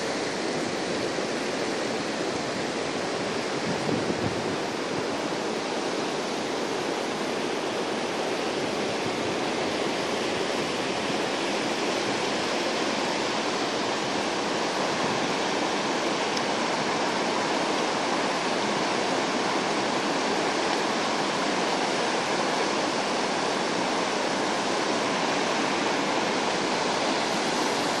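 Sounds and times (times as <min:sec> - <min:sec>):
river rapids rushing over rocks: 0:00.0 - 0:28.0.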